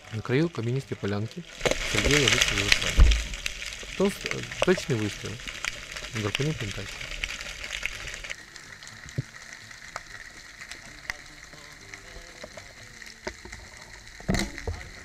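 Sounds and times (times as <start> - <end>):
underwater crackle of clicks: 1.4 - 15.0.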